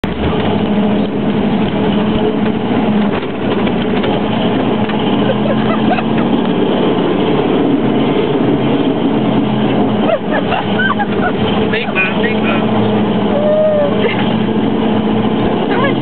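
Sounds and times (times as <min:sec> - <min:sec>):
car engine running from inside: 0:00.0 - 0:16.0.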